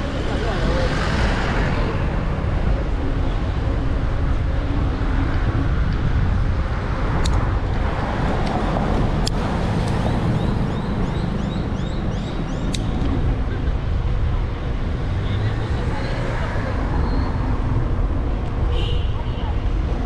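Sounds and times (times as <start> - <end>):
passing cars: 0.0 - 20.0
wind rumbling on microphone: 0.0 - 20.0.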